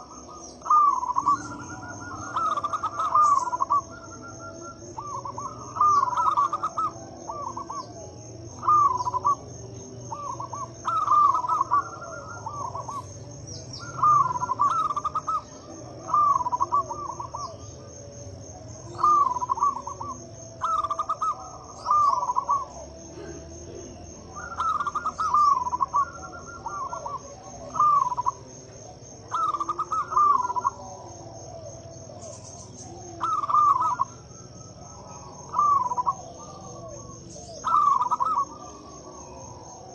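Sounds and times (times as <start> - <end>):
dove cooing: 0.0 - 39.9
high insect trill: 0.0 - 39.9.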